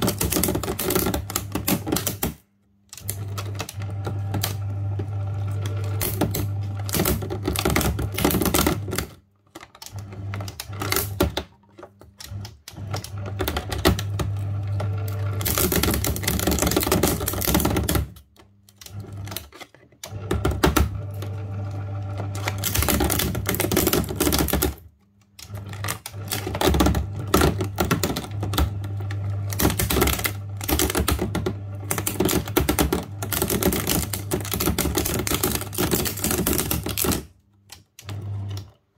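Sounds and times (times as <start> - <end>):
paper shredder motor hum: 0.0 - 9.2, 9.8 - 37.3, 38.0 - 38.9
plastic crackling and snapping: 0.0 - 38.8.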